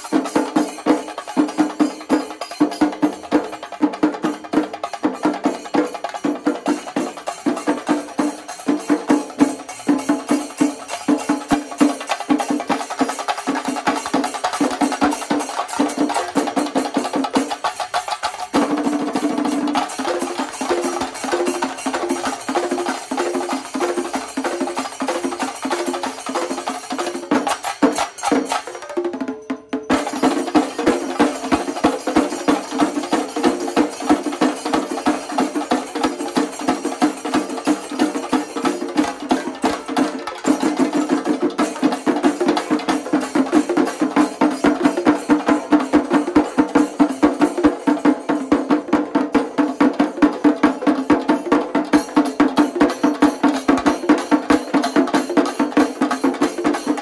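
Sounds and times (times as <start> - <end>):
chenda drums beating fast rhythm: 0.0 - 57.0.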